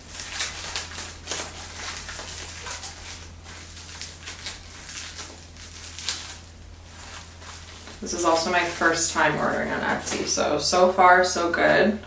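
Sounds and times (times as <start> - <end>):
plastic wrapping crinkling: 0.0 - 10.5
steady low hum: 0.0 - 12.0.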